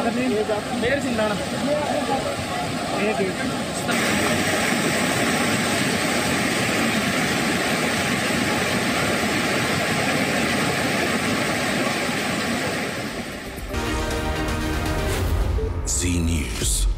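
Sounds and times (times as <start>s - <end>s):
floodwater rushing: 0.0s - 15.8s.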